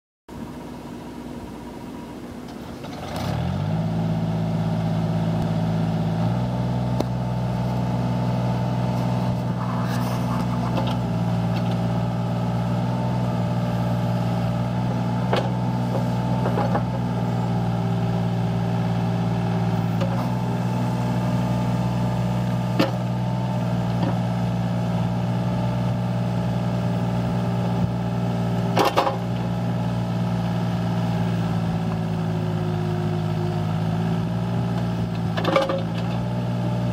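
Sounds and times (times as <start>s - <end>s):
excavator diesel engine running: 0.3s - 36.9s.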